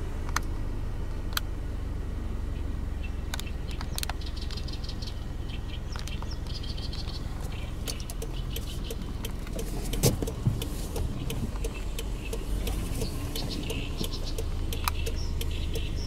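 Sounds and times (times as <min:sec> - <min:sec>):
low rumble of road traffic: 0:00.0 - 0:16.0
birds chirping: 0:02.4 - 0:16.0.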